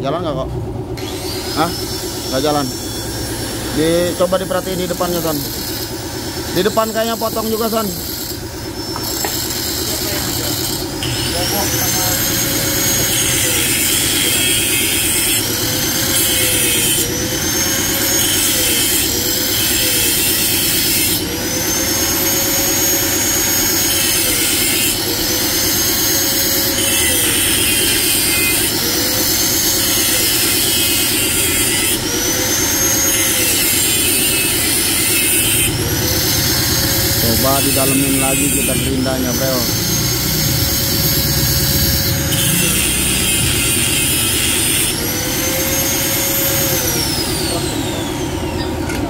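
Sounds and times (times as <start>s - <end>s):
angle grinder cutting metal: 1.0s - 49.0s.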